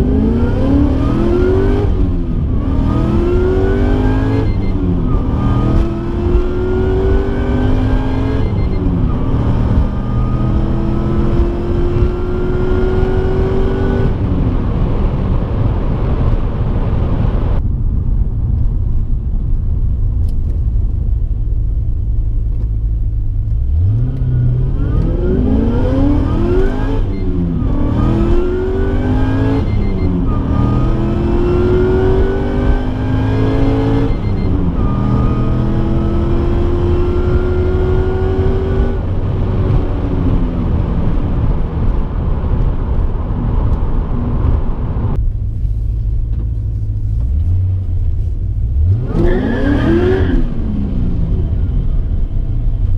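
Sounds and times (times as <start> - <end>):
car engine accelerating hard: 0.0 - 17.6, 21.9 - 52.9.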